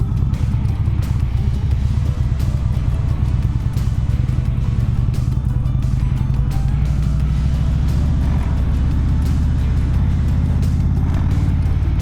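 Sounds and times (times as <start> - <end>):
background music: 0.0 - 12.0
motorcycle engine running: 0.0 - 12.0.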